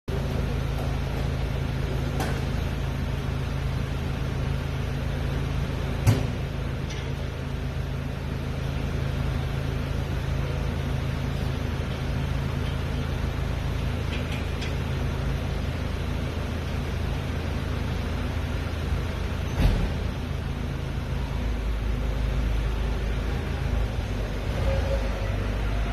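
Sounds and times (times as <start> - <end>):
low mechanical hum: 0.1 - 25.9.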